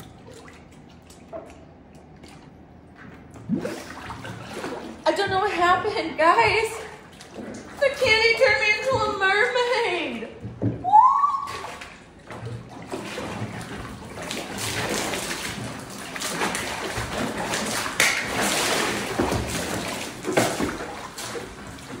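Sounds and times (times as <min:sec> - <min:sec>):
water sloshing and splashing: 0:00.0 - 0:22.0.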